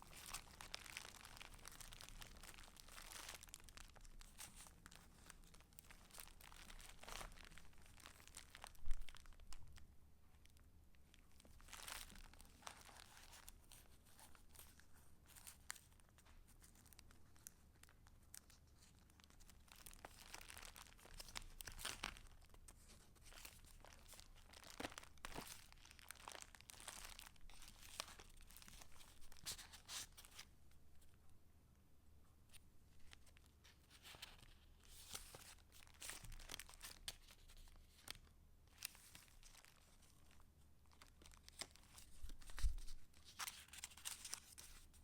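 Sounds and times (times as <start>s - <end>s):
paper pages rustling and crinkling: 0.0s - 9.8s, 11.4s - 30.5s, 32.5s - 45.0s.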